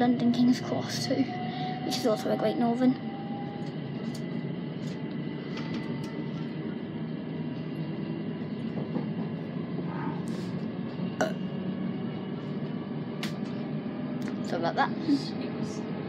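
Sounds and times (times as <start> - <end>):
electric train running noise: 0.0 - 16.0.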